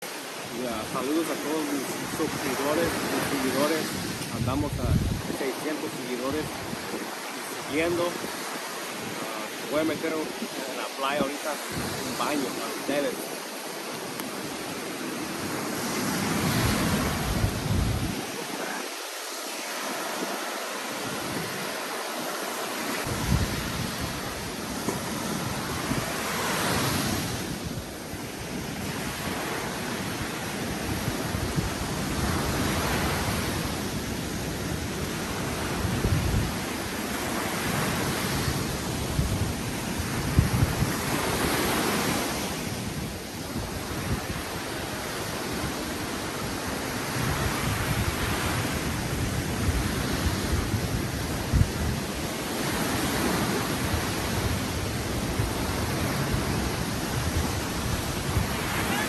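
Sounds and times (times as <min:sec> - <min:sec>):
waves breaking on shore: 0:00.0 - 0:59.0
wind buffeting microphone: 0:01.9 - 0:05.7, 0:06.4 - 0:12.3, 0:13.8 - 0:19.2, 0:20.0 - 0:22.0, 0:22.8 - 0:59.0.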